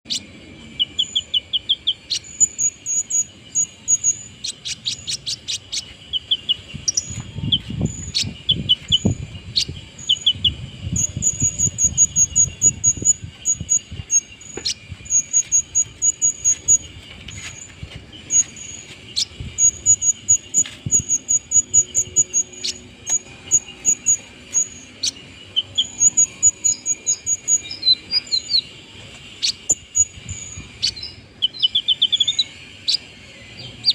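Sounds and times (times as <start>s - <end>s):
bird singing high chirps and trills: 0.0s - 33.9s.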